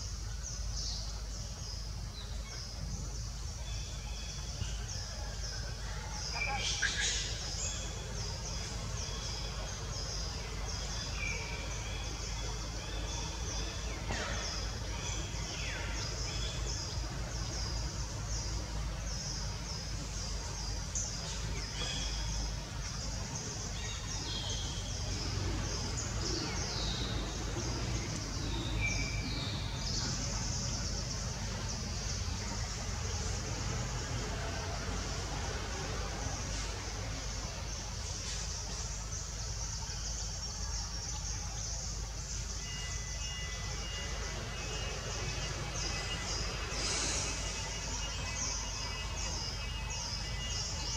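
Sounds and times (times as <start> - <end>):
birds chirping: 0.0 - 50.9.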